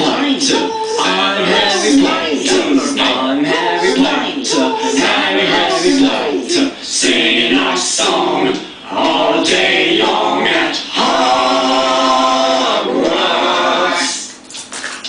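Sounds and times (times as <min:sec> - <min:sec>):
unaccompanied voices singing: 0:00.0 - 0:14.4.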